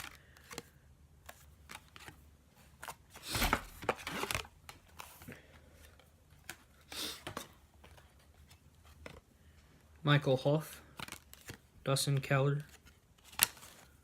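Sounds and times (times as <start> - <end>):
cards sliding and rustling: 0.0 - 9.3, 10.8 - 14.0.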